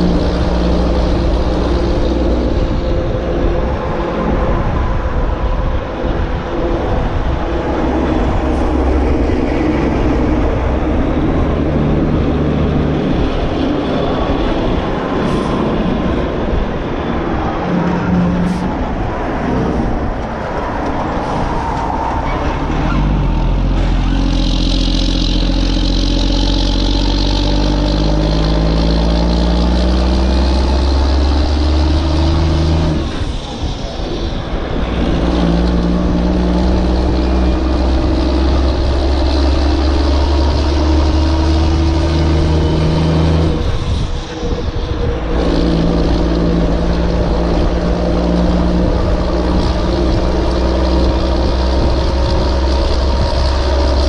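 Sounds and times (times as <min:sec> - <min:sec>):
truck engine humming: 0:00.0 - 0:54.0.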